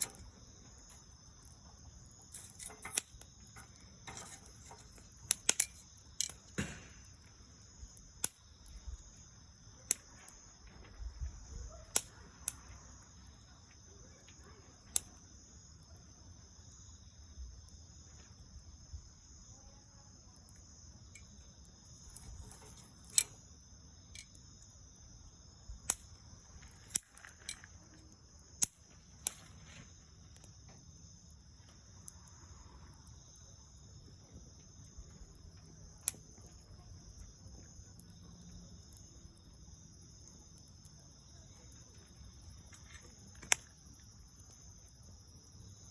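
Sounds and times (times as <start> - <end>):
bonfire crackling and popping: 0.0 - 19.1, 20.3 - 45.9.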